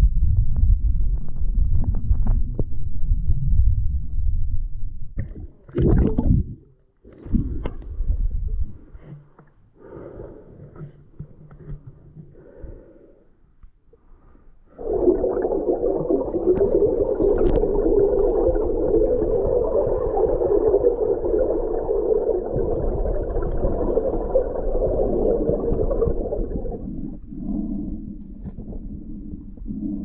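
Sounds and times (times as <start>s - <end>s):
muffled underwater water rush: 0.0s - 9.2s, 14.7s - 30.0s.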